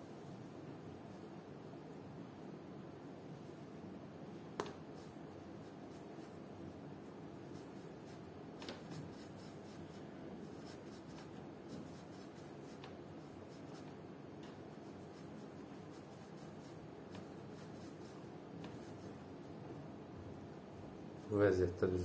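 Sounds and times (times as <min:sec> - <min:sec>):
hands rubbing dough: 0:03.0 - 0:21.5.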